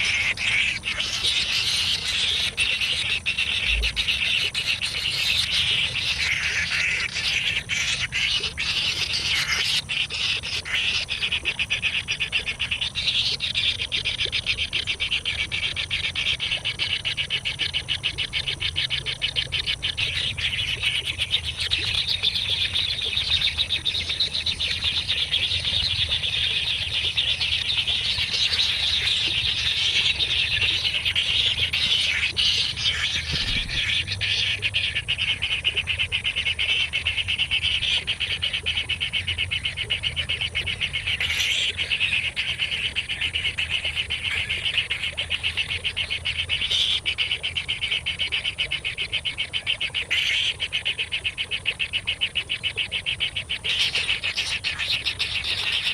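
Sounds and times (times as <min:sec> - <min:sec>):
chorus of chirring and chirping: 0:00.0 - 0:55.9.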